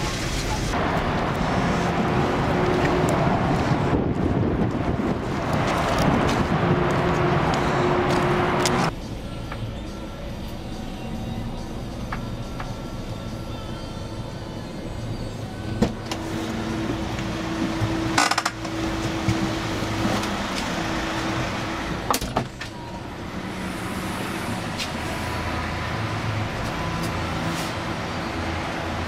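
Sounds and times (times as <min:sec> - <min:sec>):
low rumble in van: 0:00.0 - 0:29.0.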